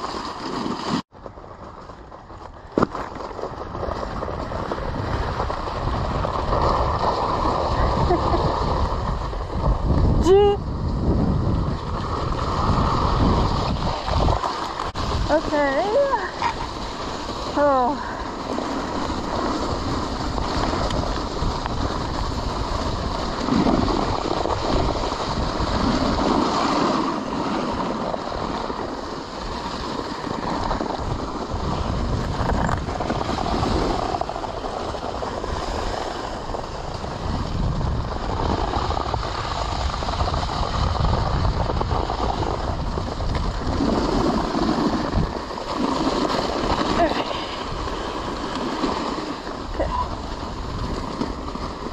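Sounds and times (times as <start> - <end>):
sled runners sliding over snow: 0.0 - 51.9
wind noise on microphone: 0.0 - 51.9.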